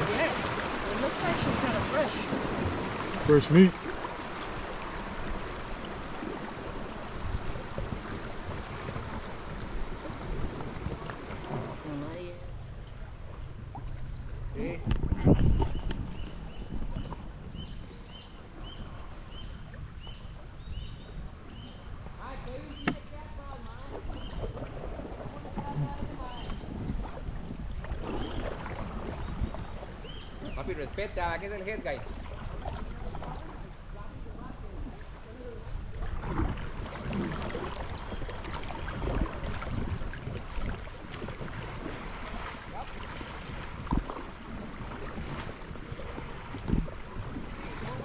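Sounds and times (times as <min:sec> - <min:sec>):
river water splashing around raft: 0:00.0 - 0:48.0
wind rumbling on microphone: 0:04.2 - 0:48.0.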